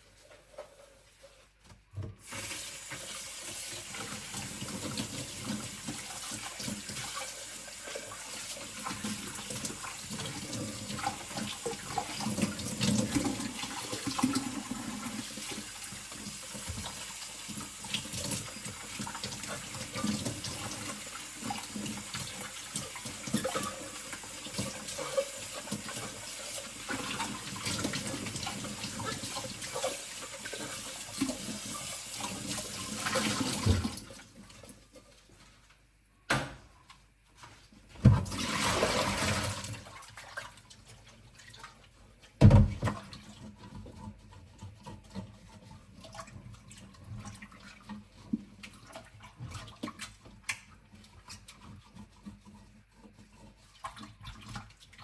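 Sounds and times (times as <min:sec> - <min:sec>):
tap water running into sink: 0:00.2 - 0:34.8, 0:38.0 - 0:55.0.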